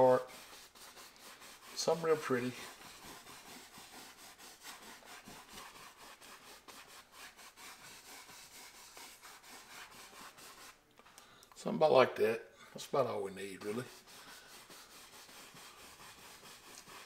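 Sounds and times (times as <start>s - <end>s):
brush swishing on canvas: 0.0s - 10.8s, 13.0s - 17.0s.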